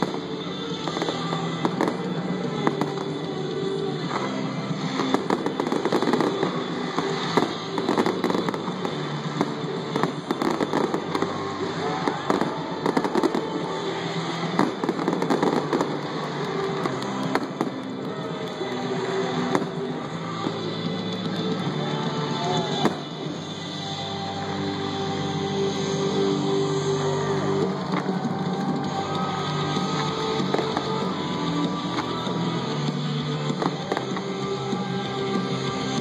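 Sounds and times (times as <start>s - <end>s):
fireworks bangs and pops: 0.0s - 24.0s, 25.7s - 36.0s
music playing: 0.0s - 36.0s.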